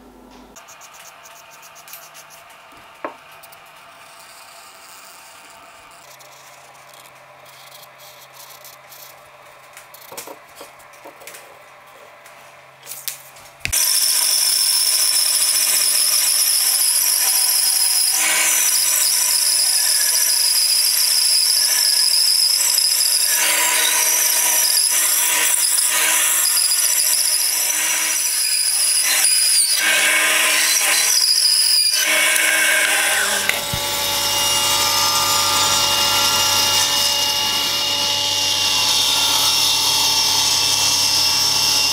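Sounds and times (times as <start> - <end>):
table saw humming: 0.1 - 11.4, 13.6 - 41.9
bandsaw cutting wood: 0.6 - 9.3, 13.7 - 41.9.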